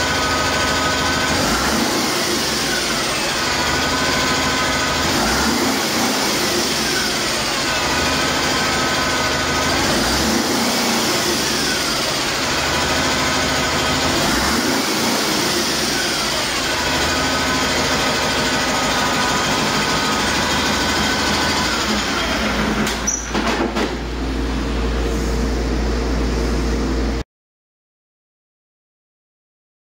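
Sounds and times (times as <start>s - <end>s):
diesel engine running: 0.0s - 27.2s.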